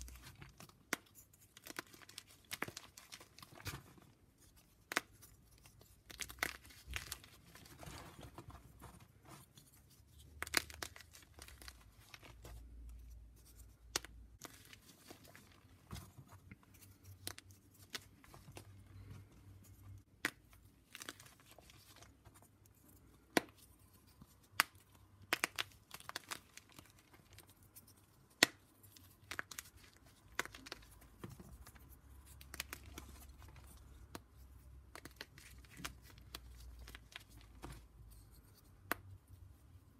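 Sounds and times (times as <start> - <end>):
chalk snapping and crunching: 0.0 - 18.7, 19.6 - 39.3.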